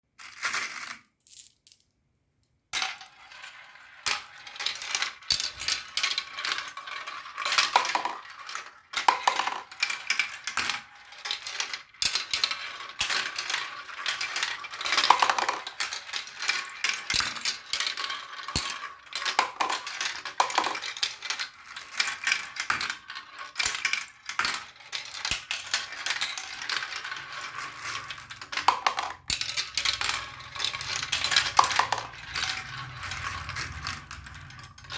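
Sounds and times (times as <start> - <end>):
marbles clattering down a run: 2.8 - 34.9.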